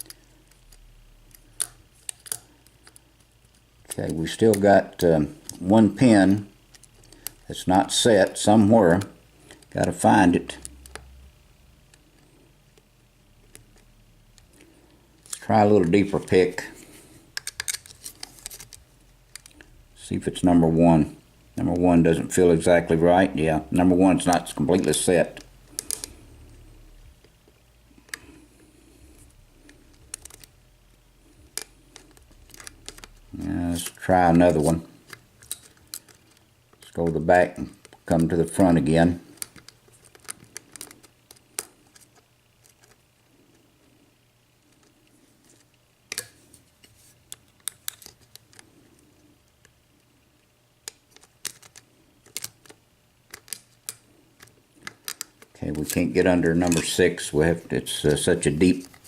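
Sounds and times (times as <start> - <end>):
faint hum: 0.0 - 59.0.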